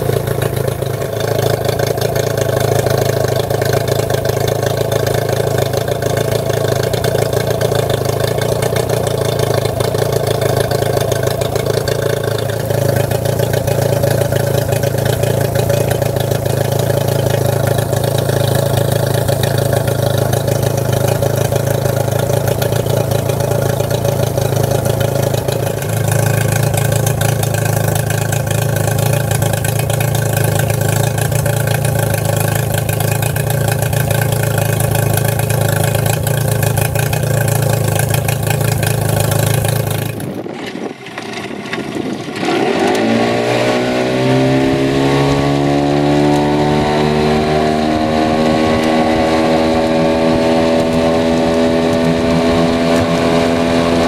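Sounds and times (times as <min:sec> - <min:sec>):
motor boat throttling up: 0:00.0 - 0:54.0
outboard motor running: 0:00.0 - 0:54.0.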